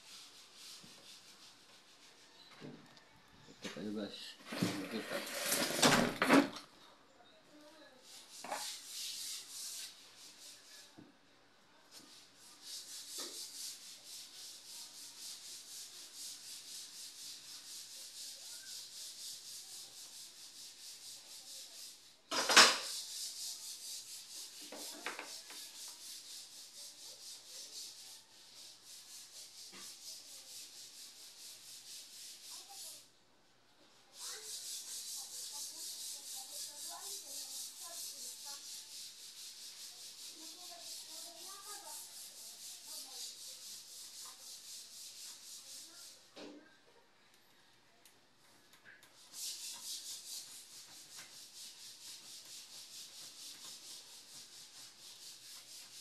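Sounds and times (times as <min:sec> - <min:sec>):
hand tool rubbing on wood: 0:00.0 - 0:03.0, 0:08.0 - 0:10.9, 0:11.9 - 0:33.2, 0:34.1 - 0:46.4, 0:49.0 - 0:56.0.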